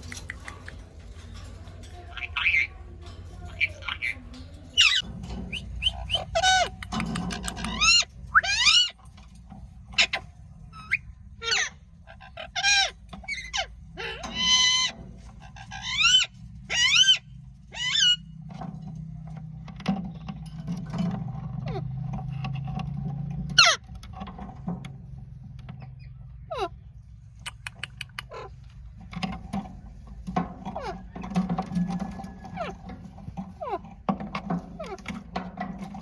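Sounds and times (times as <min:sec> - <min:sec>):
parakeets screeching: 0:00.0 - 0:09.1, 0:09.8 - 0:18.4, 0:20.9 - 0:22.3, 0:23.5 - 0:23.9, 0:25.8 - 0:36.0
low steady hum: 0:00.0 - 0:36.0.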